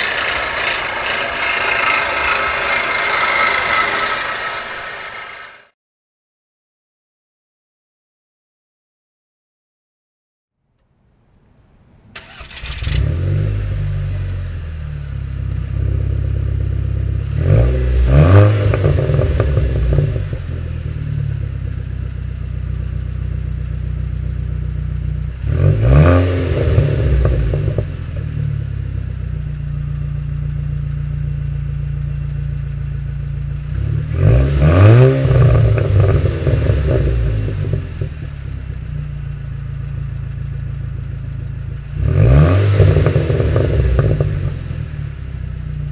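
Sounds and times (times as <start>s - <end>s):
car engine idling and revving: 0.0s - 5.7s, 12.2s - 45.9s.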